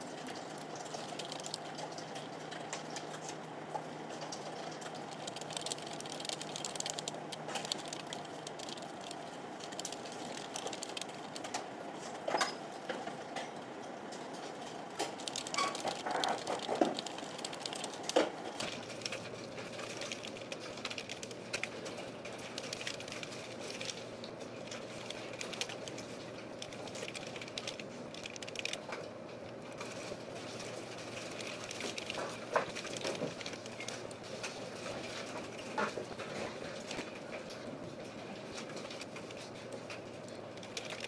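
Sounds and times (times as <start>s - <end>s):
fast typing on keyboard: 0.0s - 3.2s, 4.2s - 11.7s, 15.0s - 29.0s, 29.6s - 35.6s, 38.4s - 41.0s.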